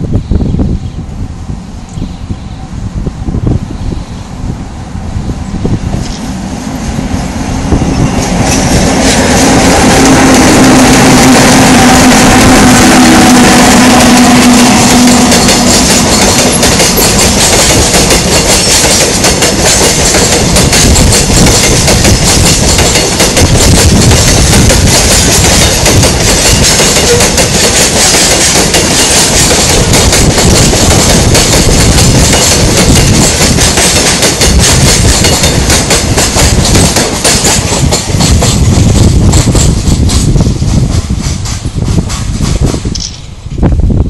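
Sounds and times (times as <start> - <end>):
locomotive low hum: 0.2 - 44.0
train wheels clattering on rails: 7.8 - 43.3.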